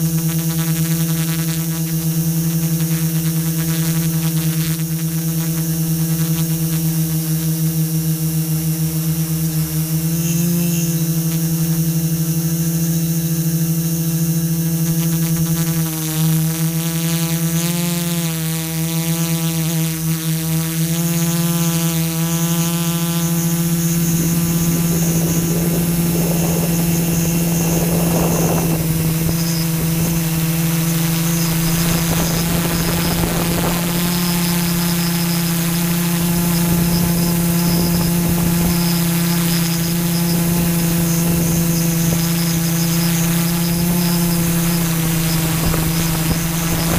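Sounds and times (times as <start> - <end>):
drone motors whining: 0.0 - 18.2, 20.8 - 46.9.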